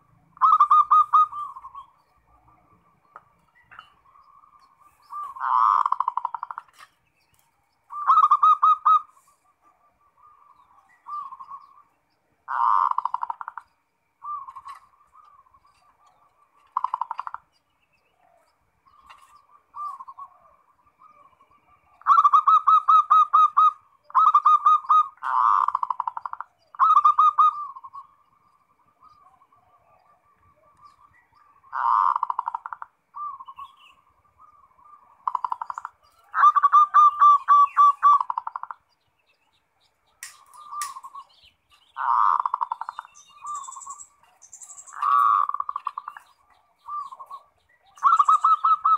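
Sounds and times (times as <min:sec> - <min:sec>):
dove cooing: 0:00.0 - 0:06.8, 0:07.9 - 0:38.9, 0:40.2 - 0:48.9.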